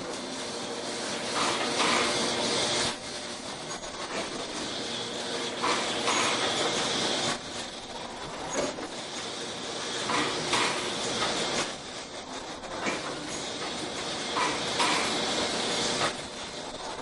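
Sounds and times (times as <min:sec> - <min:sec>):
machine mechanical clatter: 0:00.0 - 0:17.0.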